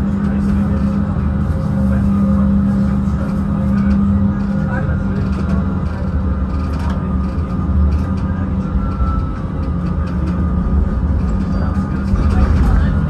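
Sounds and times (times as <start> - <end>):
faint whining tones: 0.0 - 13.0
tram rumbling: 0.0 - 13.0.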